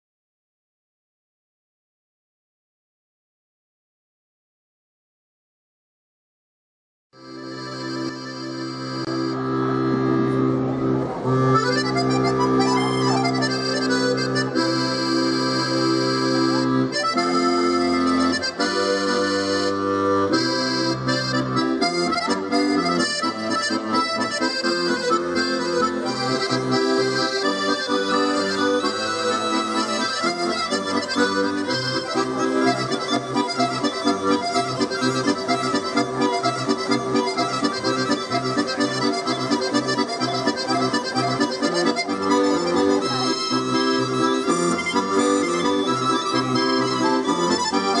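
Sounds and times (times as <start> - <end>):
button accordion playing: 7.2 - 48.0.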